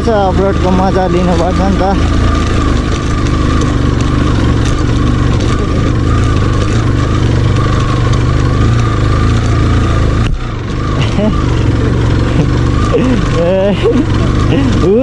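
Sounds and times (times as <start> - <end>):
motorcycle engine at low revs: 0.0 - 15.0
tyres rolling over rocky dirt: 0.0 - 15.0.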